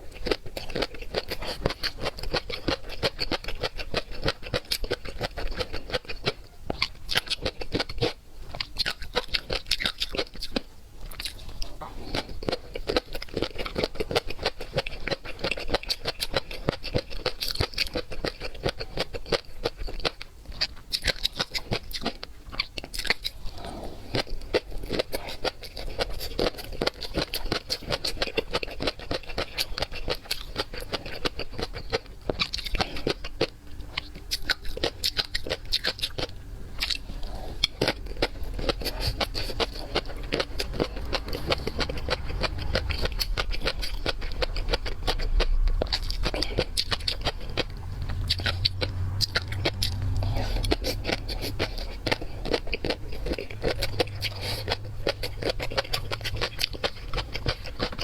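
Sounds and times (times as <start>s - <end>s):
chewing and crunching seafood: 0.0s - 58.0s.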